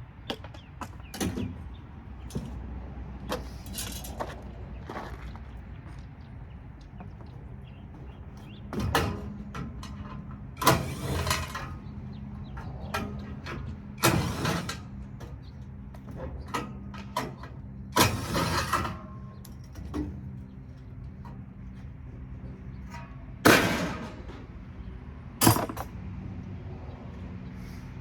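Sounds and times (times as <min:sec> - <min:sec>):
metal clanks and scrapes: 0:00.3 - 0:05.7, 0:07.0 - 0:24.6, 0:25.4 - 0:26.0.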